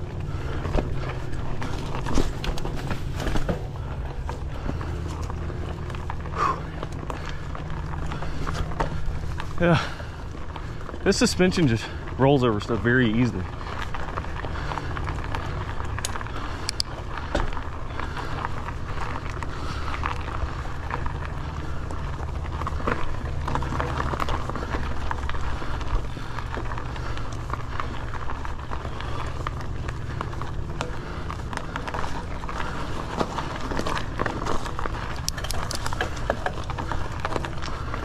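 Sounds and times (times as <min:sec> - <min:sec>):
bike tyres on gravel: 0:00.0 - 0:38.0
small clicks and rattles: 0:00.0 - 0:38.0.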